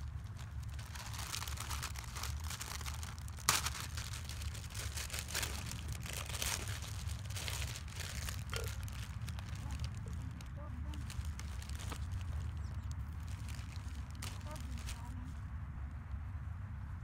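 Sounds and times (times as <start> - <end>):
plastic wrapping crinkling: 0.0 - 15.2
steady low rumble: 0.0 - 17.0.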